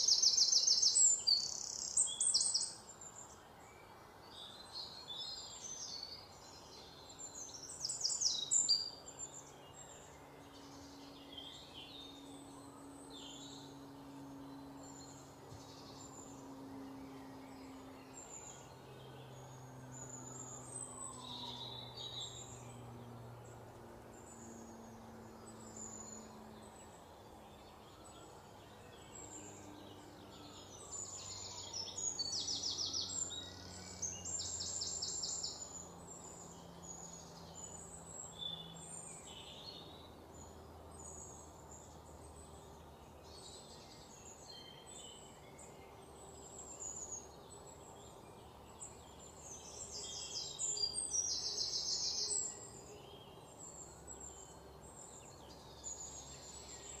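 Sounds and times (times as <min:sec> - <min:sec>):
faint low hum: 0:00.0 - 0:57.0
small birds chirping: 0:00.0 - 0:57.0.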